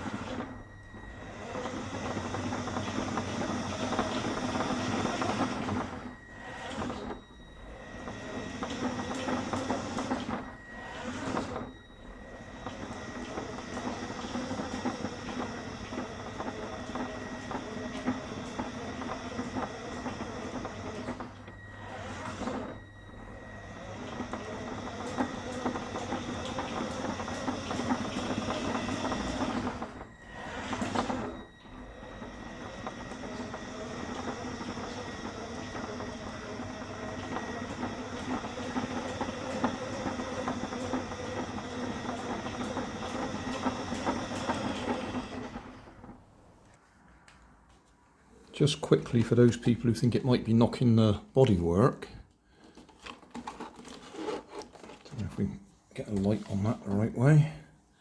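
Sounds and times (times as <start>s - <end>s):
toy car motor whining: 0.0s - 46.0s, 52.9s - 55.1s.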